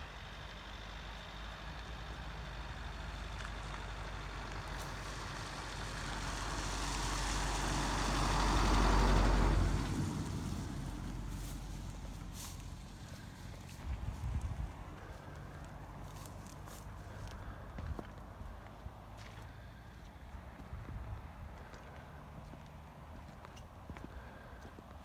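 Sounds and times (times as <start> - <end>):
vehicle passing by: 0.2 - 24.6.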